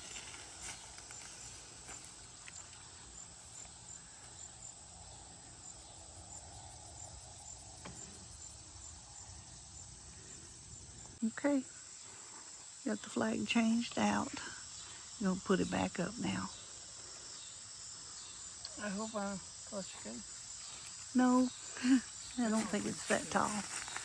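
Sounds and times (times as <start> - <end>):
high-pitched insect chirping: 0.0 - 24.0.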